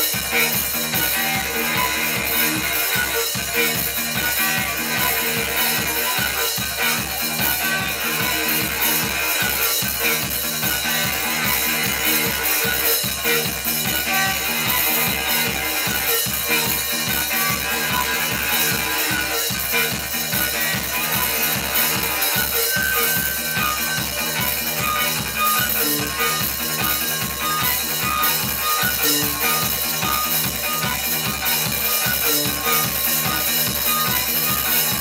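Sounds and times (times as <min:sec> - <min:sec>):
bass guitar: 0:00.0 - 0:35.0
drums: 0:00.0 - 0:35.0
electric guitar: 0:00.0 - 0:35.0.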